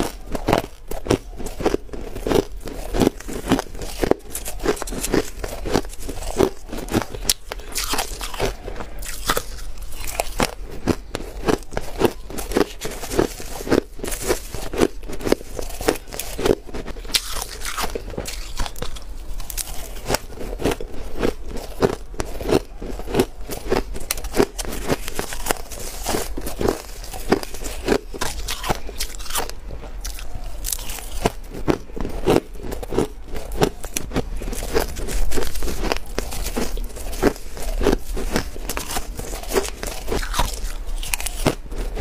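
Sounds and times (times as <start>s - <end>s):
ice crunching being chewed: 0.0s - 42.0s.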